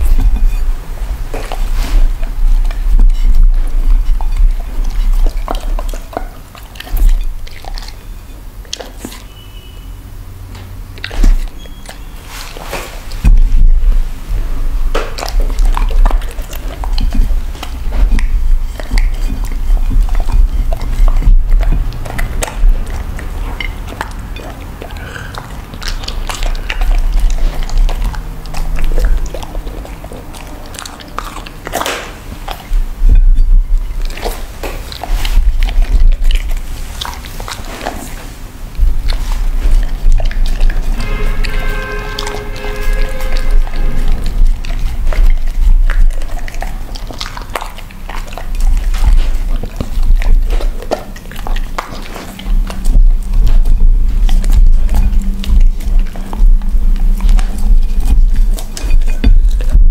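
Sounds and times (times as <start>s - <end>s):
dog chewing and licking: 0.0s - 59.9s.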